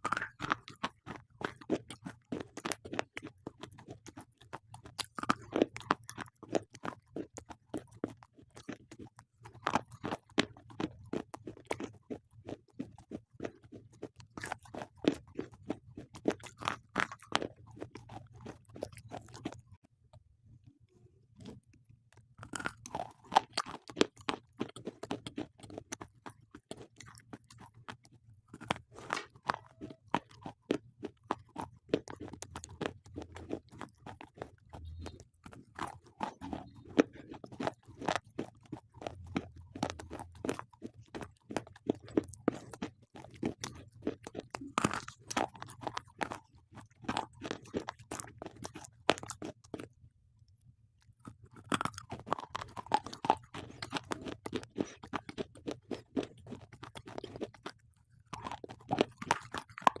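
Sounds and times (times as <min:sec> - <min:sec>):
slate pencils being chewed: 0:00.0 - 0:19.9, 0:20.6 - 1:00.0.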